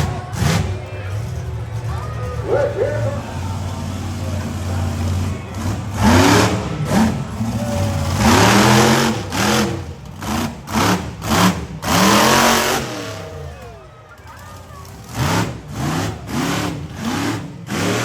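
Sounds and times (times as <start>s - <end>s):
engine idle rumble: 0.0s - 18.0s
truck engine revving: 0.0s - 18.0s.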